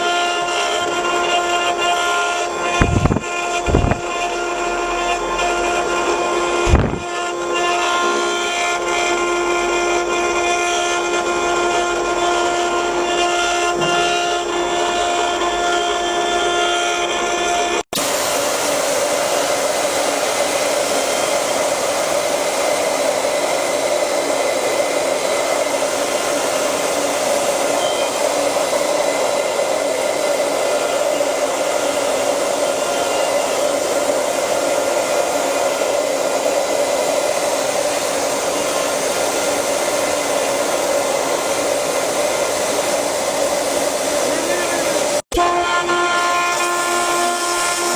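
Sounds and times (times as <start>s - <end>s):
lathe humming tone: 0.0s - 47.9s
lathe whirring: 0.0s - 47.9s.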